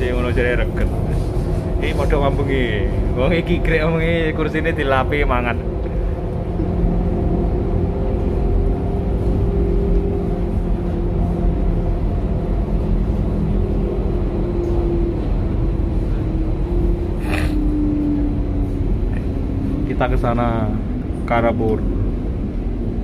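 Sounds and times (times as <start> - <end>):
electric train running: 0.0 - 23.0.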